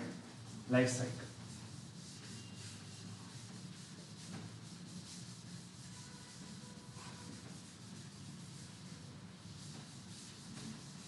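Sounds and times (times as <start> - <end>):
duster wiping a blackboard: 0.0 - 11.0.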